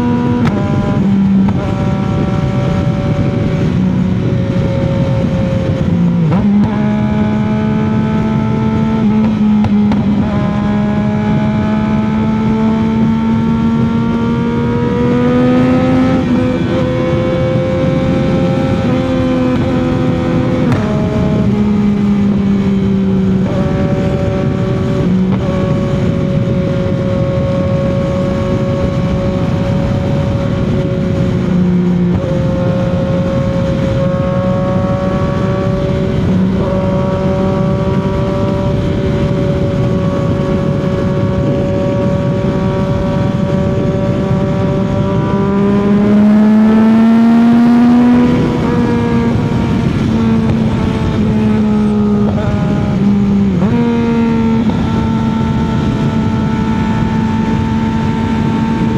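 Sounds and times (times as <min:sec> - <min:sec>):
motorcycle engine cruising: 0:00.0 - 0:58.9
motorcycle engine revving: 0:00.0 - 0:58.9.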